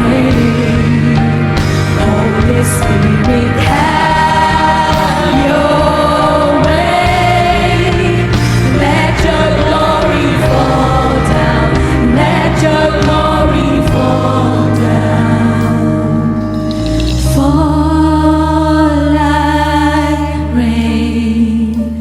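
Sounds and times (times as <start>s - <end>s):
live worship band playing: 0.0s - 22.0s
voices singing together: 0.0s - 22.0s.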